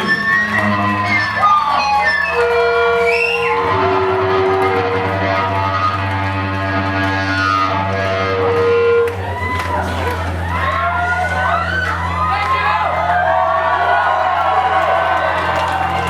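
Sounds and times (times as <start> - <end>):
crowd shouting: 0.0 - 6.0, 8.3 - 16.0.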